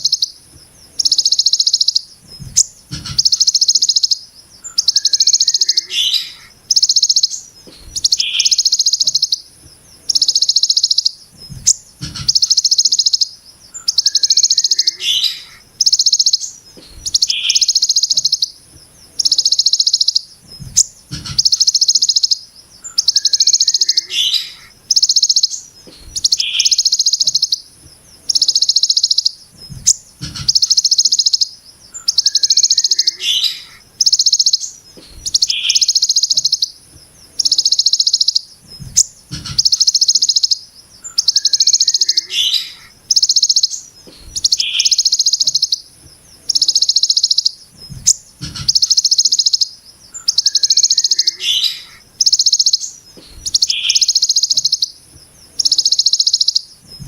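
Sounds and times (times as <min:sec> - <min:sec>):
bird buzzy rasping trills: 0:00.0 - 0:57.0.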